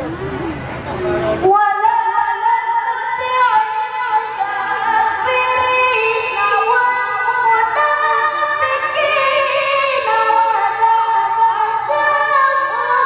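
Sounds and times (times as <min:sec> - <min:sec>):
boy reciting melodically into microphone: 0:01.3 - 0:13.0.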